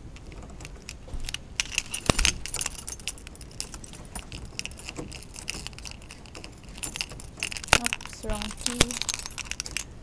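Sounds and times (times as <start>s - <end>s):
keys jangling: 0.0s - 10.0s.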